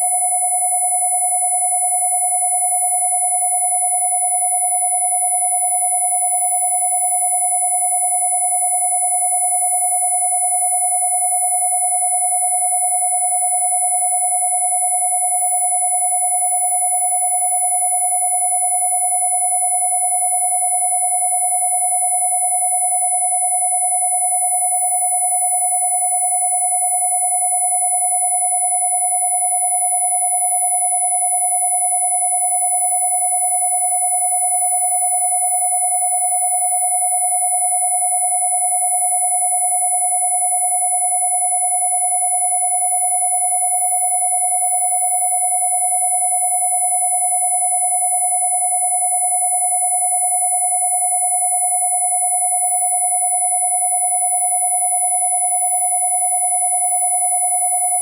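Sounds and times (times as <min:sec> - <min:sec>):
mid-pitched sine tone: 0:00.0 - 0:58.0
very high sine tone: 0:00.0 - 0:58.0.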